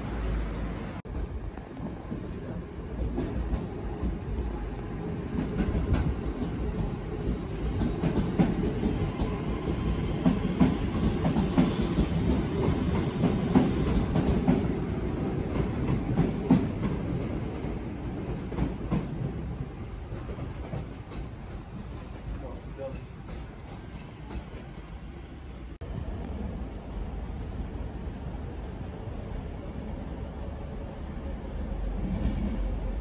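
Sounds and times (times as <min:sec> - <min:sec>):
train wheel rumble: 0:00.0 - 0:33.0.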